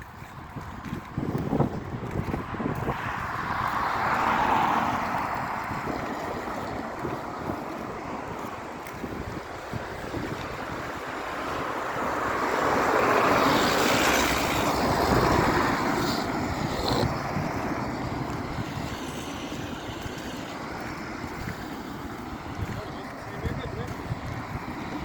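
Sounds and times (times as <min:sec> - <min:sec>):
broad outdoor rush: 0:00.0 - 0:25.0
wind buffeting microphone: 0:00.0 - 0:25.0.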